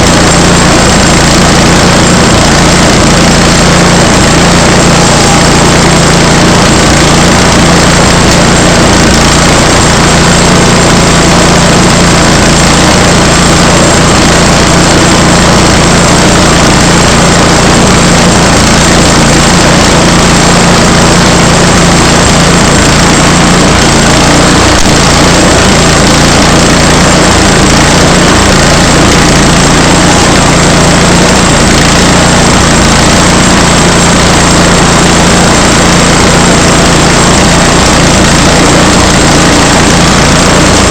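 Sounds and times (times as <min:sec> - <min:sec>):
small gasoline engine saw running: 0:00.0 - 0:40.9.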